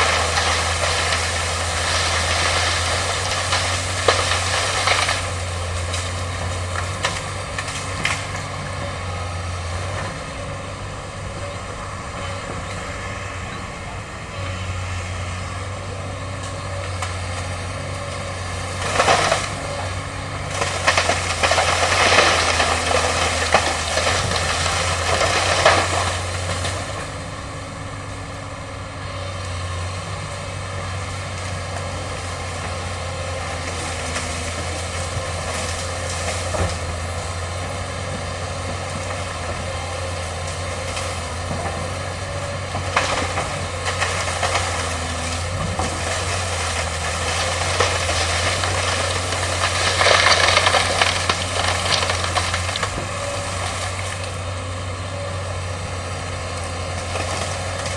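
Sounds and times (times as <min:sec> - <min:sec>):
bamboo crackling: 0:00.0 - 0:12.2, 0:14.6 - 0:57.9
excavator diesel engine running: 0:00.0 - 0:57.9.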